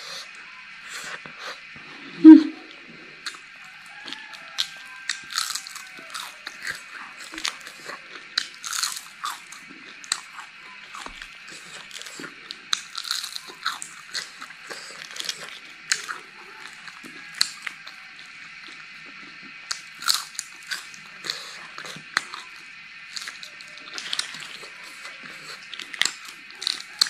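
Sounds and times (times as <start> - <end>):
crunchy chewing: 0.0 - 27.0.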